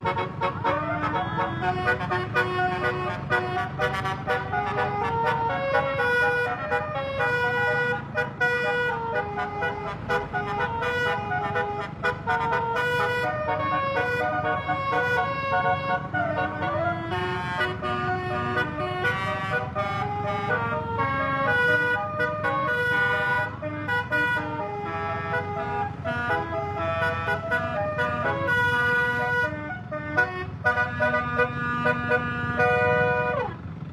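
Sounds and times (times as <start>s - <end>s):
musical vehicle horn melody: 0.0s - 33.9s.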